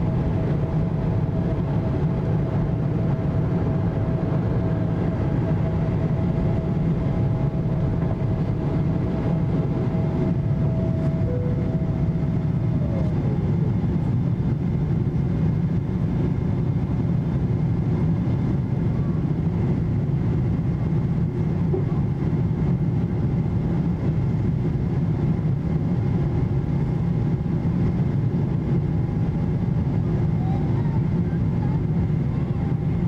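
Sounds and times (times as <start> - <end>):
faint steady whining tones: 0.0 - 33.0
jet engine cabin rumble: 0.0 - 33.0.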